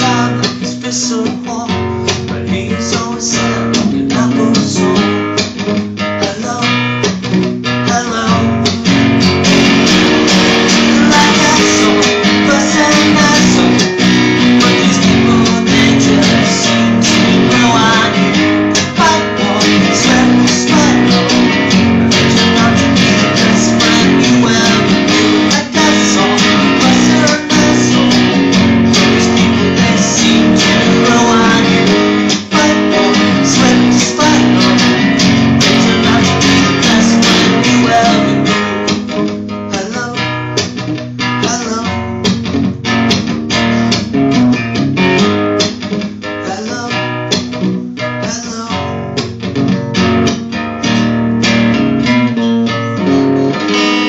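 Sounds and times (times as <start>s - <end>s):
acoustic guitar strummed chords: 0.0s - 54.0s.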